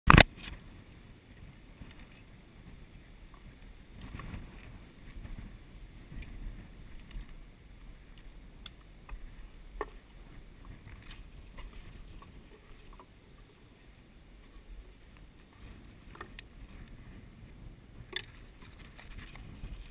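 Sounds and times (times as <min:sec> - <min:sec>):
wind buffeting microphone: 0:00.2 - 0:19.9.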